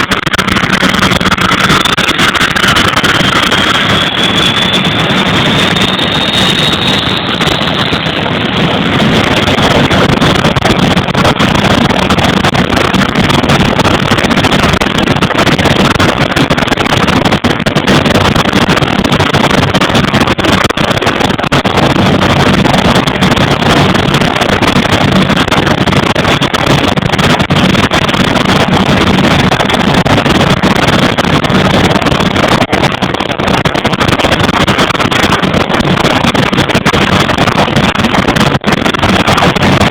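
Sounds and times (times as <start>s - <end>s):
high turbine whine: 0.0s - 39.9s
turboprop engines running: 0.0s - 39.9s.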